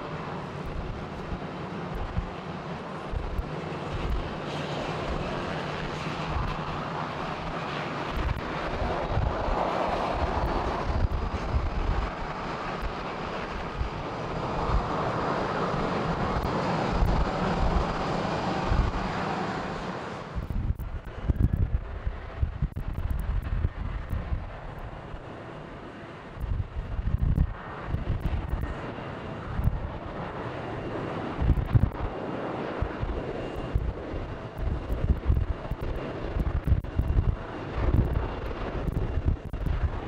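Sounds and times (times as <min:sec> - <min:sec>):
aircraft engine noise: 0:00.0 - 0:40.0
wind buffeting microphone: 0:00.0 - 0:40.0.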